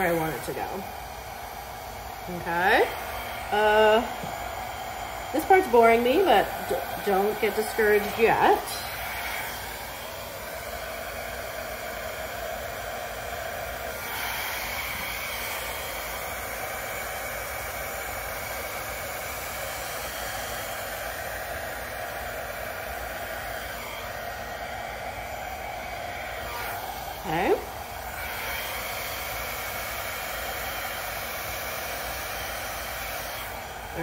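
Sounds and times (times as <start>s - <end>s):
hair dryer blowing air: 0.0s - 34.0s.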